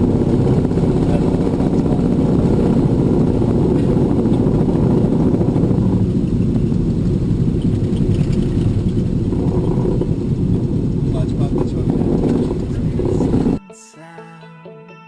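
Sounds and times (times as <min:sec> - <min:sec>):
aircraft engine and propeller droning: 0:00.0 - 0:13.6.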